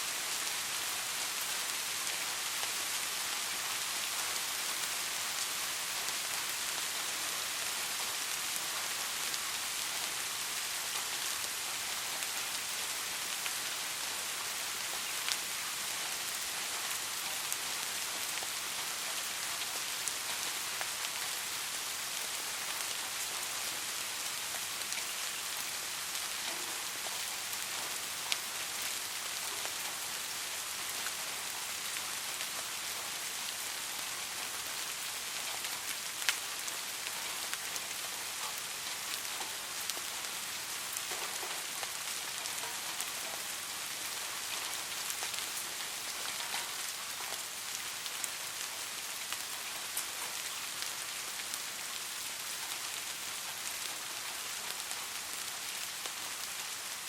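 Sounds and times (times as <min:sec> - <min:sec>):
steady rain on a surface: 0:00.0 - 0:57.0.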